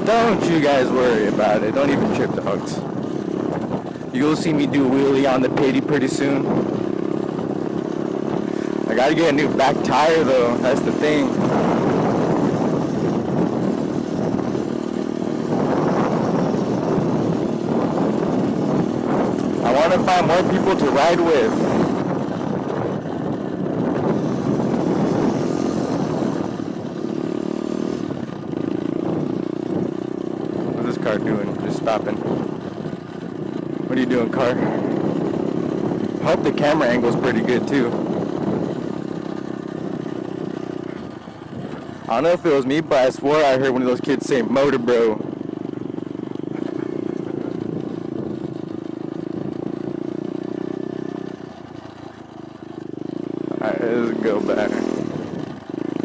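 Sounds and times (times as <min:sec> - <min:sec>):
dirt bike riding over rough ground: 0:00.0 - 0:56.0.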